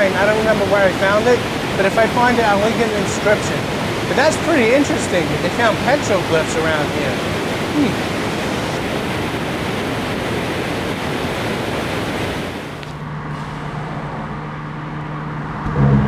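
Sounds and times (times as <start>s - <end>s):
waterfall rushing: 0.0s - 13.0s
moving car hum: 0.0s - 16.0s.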